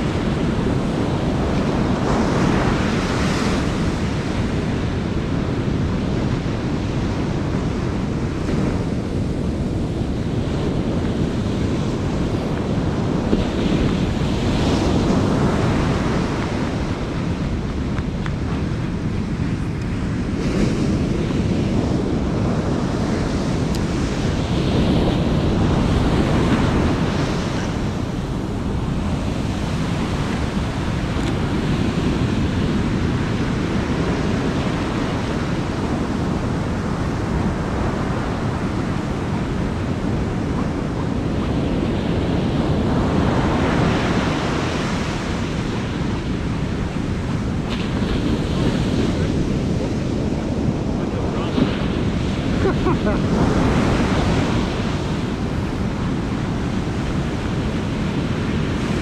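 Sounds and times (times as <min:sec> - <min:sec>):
ocean surf breaking on beach: 0:00.0 - 0:59.0
wind rumbling on microphone: 0:00.0 - 0:59.0.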